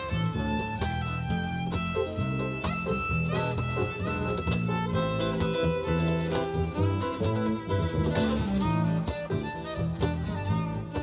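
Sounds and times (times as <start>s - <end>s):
acoustic guitar: 0.0s - 11.0s
fiddle melody: 0.0s - 11.0s
low backing notes: 0.0s - 11.0s.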